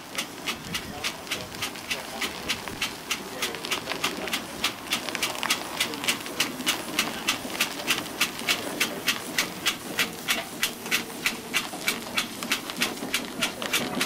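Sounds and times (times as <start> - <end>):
steam engine exhaust beating: 0.0 - 14.0
steam hiss: 0.0 - 14.0.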